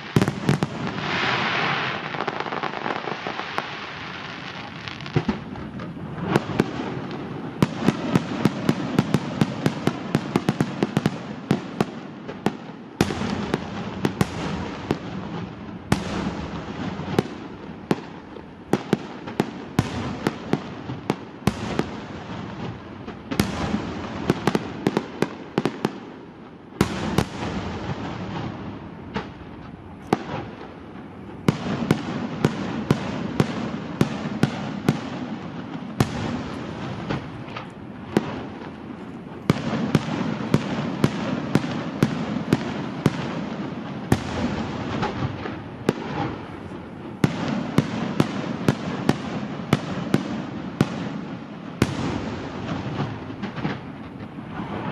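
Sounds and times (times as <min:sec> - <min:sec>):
fireworks bangs: 0:00.0 - 0:54.9
fireworks crackling and rumble: 0:00.0 - 0:54.9.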